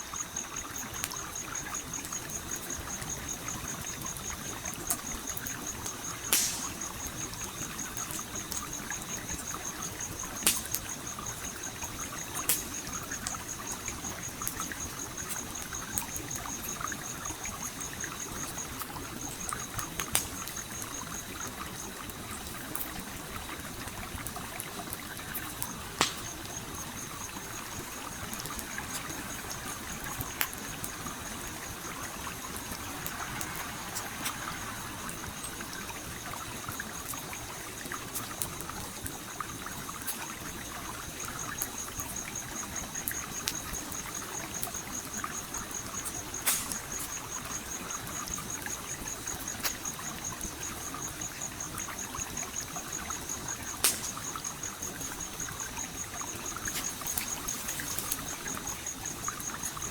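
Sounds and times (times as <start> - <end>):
stream trickling: 0.0 - 59.9
campfire crackling and popping: 0.4 - 59.9.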